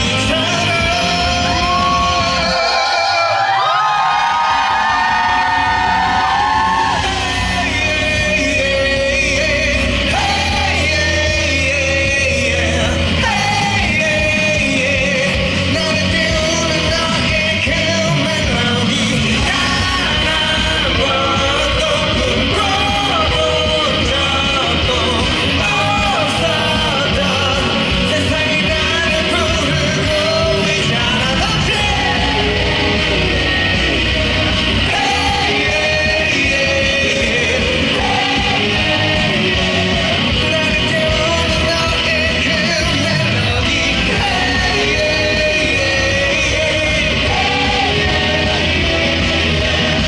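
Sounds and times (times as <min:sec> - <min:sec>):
man singing: 0:00.0 - 0:50.0.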